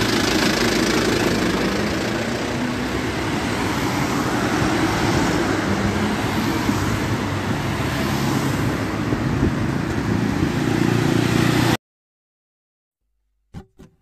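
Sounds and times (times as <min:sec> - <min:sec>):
cars passing on wet street: 0:00.0 - 0:11.8.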